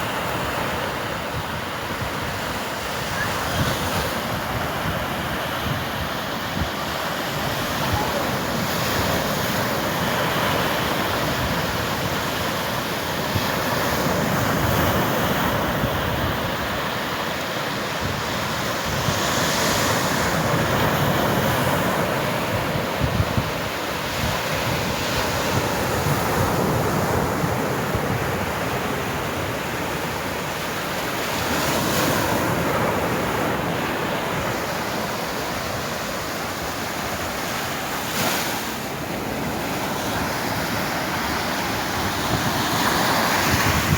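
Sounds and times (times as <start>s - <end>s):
sea waves washing onto shore: 0.0s - 43.9s
wind on microphone: 0.0s - 43.9s.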